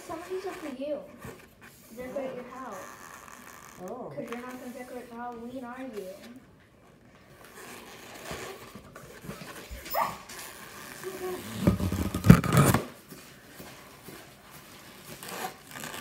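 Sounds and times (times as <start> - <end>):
balloons squeaking and rubbing: 0.0 - 6.4, 7.3 - 13.0, 13.8 - 16.0.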